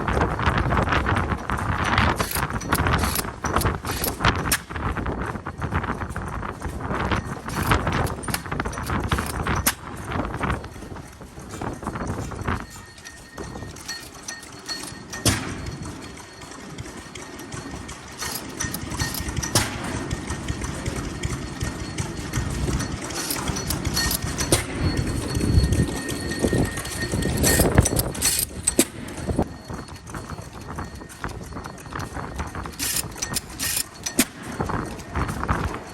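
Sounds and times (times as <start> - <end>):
stationary engines knocking slowly: 0.0 - 35.9.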